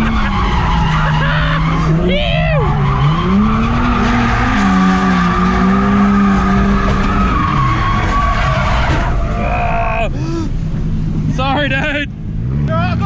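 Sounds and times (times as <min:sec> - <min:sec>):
tyres squealing: 0:00.0 - 0:10.5
car engine revving: 0:00.0 - 0:13.0.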